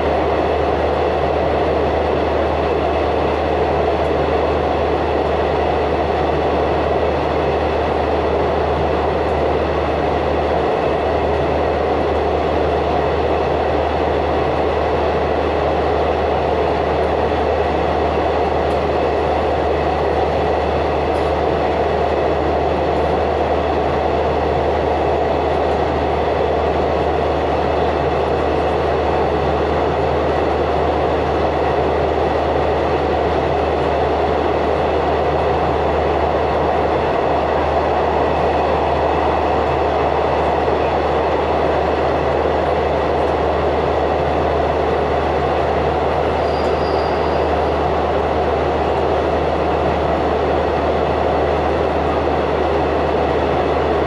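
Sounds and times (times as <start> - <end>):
train rumbling in tunnel: 0.0 - 54.0.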